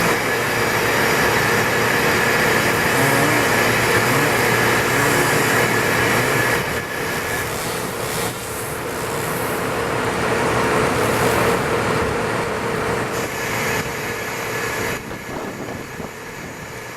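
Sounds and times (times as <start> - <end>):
engine-driven machinery humming: 0.0 - 16.9.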